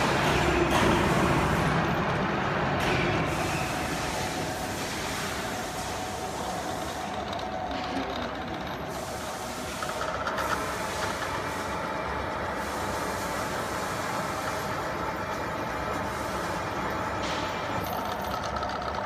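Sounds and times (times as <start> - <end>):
cnc machine running: 0.0 - 19.0.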